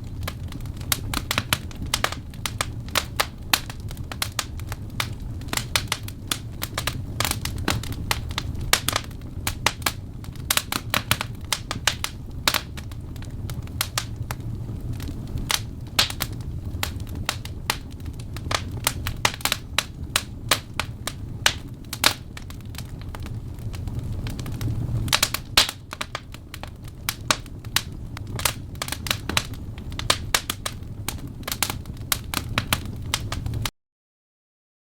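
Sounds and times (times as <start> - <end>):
low rumble of flames: 0.0 - 33.7
wood fire crackling and popping: 0.0 - 33.7.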